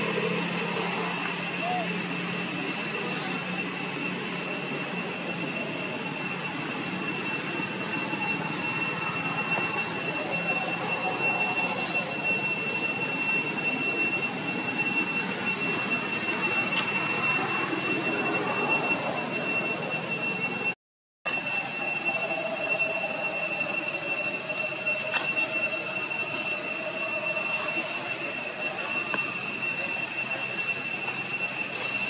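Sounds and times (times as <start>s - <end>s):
high-pitched drone: 0.0s - 32.0s.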